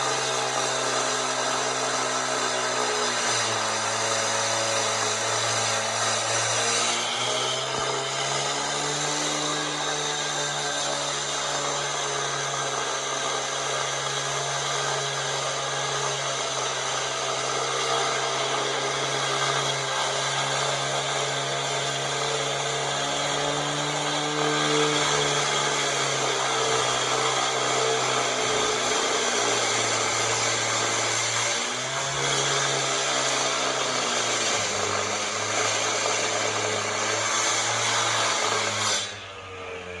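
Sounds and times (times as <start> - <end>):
power saw cutting concrete: 0.0 - 40.0.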